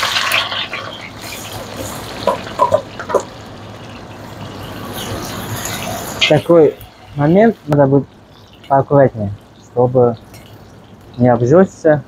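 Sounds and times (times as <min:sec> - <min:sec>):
onions sizzling in hot oil: 0:00.0 - 0:11.9.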